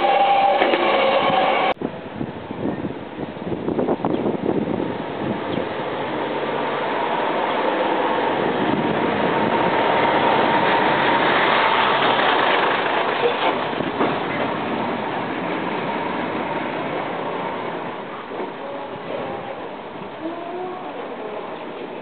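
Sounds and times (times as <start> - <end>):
electric train running noise: 0.0 - 1.8, 4.7 - 22.0.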